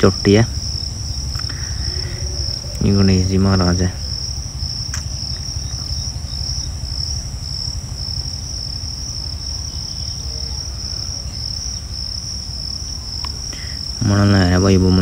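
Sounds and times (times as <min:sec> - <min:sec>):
crickets trilling: 0:00.0 - 0:15.0
low rumble: 0:00.0 - 0:15.0.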